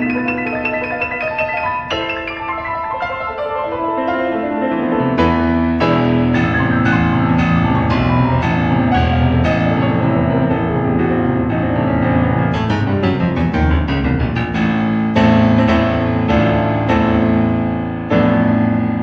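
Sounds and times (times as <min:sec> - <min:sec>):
heavy low piano bass chords: 0:00.0 - 0:19.0
piano fast runs: 0:00.0 - 0:19.0.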